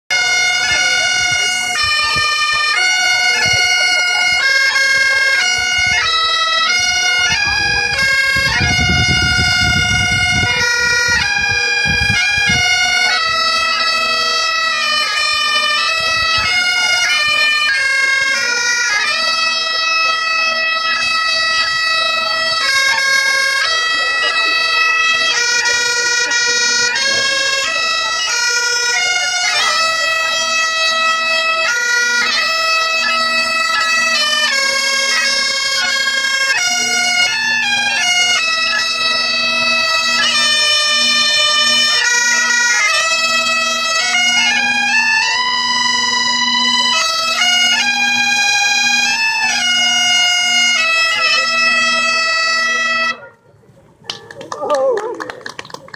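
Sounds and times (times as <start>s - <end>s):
bagpipes playing a melody: 0.1s - 53.3s
bagpipe drone: 0.1s - 53.4s.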